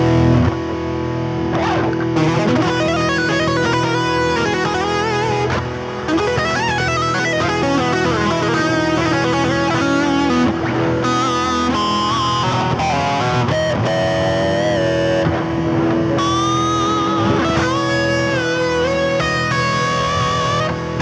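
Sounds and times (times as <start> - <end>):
electric guitar lead lines: 0.0 - 21.0
sustained guitar drone: 0.0 - 21.0.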